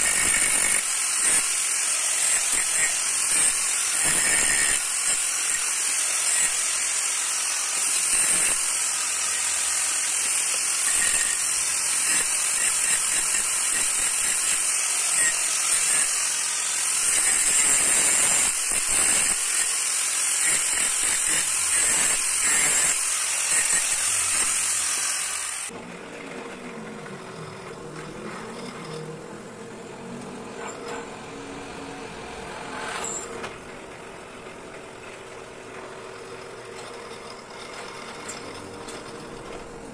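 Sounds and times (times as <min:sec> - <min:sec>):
angle grinder grinding steel: 0:00.0 - 0:25.8, 0:26.9 - 0:39.9.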